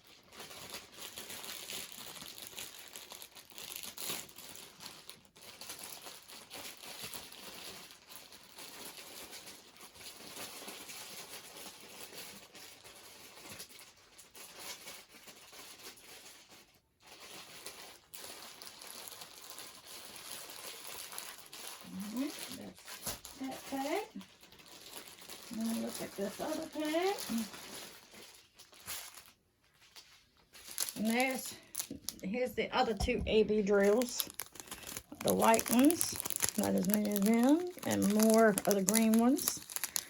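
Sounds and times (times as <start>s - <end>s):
plastic bags crinkling: 0.0s - 40.0s.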